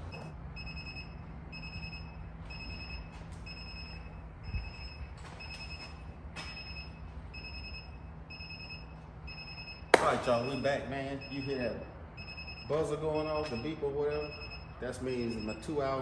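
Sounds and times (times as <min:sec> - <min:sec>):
timer alarm beeping: 0:00.1 - 0:16.0.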